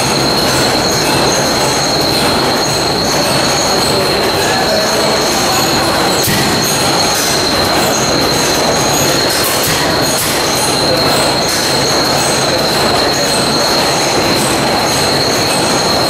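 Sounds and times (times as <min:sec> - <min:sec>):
high engine whine: 0:00.0 - 0:16.0
stationary engine clattering: 0:00.0 - 0:16.0.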